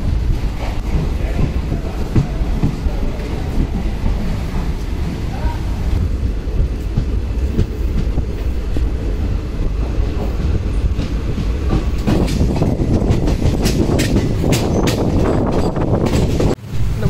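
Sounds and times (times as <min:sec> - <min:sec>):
train wheels rumbling on track: 0:00.0 - 0:17.0
wheels clicking over rail joints: 0:00.0 - 0:17.0.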